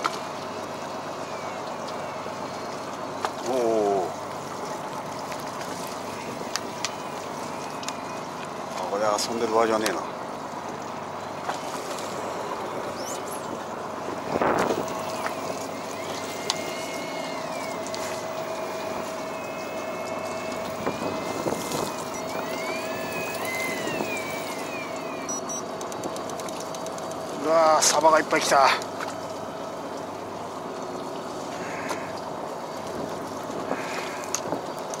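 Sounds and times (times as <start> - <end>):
electric fishing reel whine: 0.0 - 10.0, 11.5 - 27.6, 30.9 - 35.0
boat and water noise: 0.0 - 35.0.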